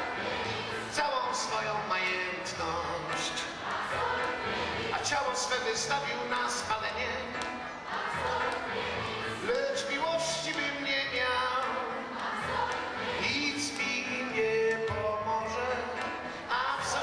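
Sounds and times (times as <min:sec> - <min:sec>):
keyboard accompaniment: 0:00.0 - 0:17.0
person singing: 0:00.0 - 0:17.0.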